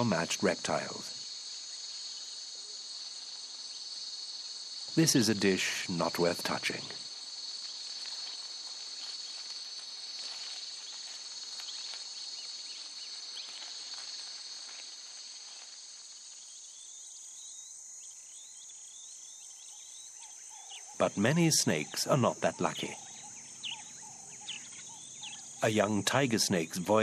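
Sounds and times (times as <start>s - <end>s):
bush crickets chirping: 0.0s - 27.0s.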